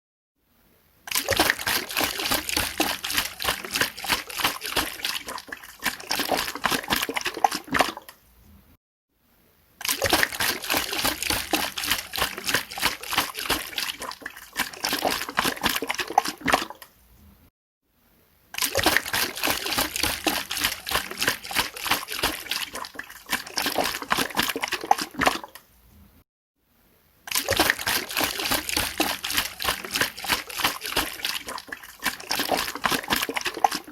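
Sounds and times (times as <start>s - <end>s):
water sloshing in a container: 1.1s - 8.6s, 9.8s - 17.3s, 18.6s - 26.1s, 27.3s - 33.9s.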